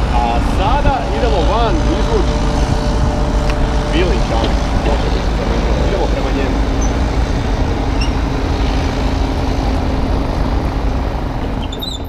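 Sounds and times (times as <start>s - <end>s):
mini excavator diesel engine: 0.0s - 12.0s.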